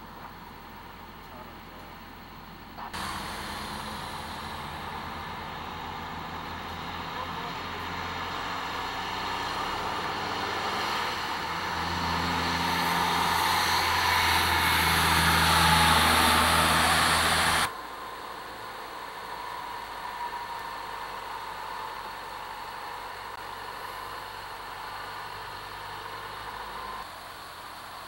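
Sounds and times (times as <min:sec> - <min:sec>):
truck diesel engine hum: 0:00.0 - 0:28.0.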